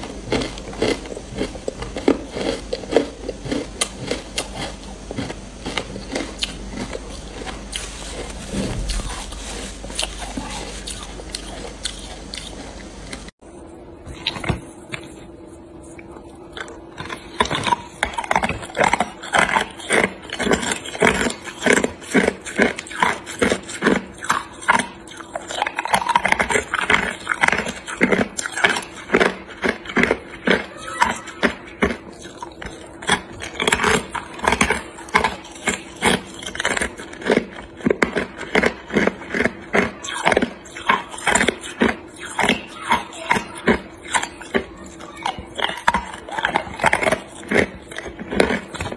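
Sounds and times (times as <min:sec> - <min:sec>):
ice cubes crunching: 0:00.0 - 0:13.2, 0:16.6 - 0:48.9
steady hum: 0:00.0 - 0:48.9.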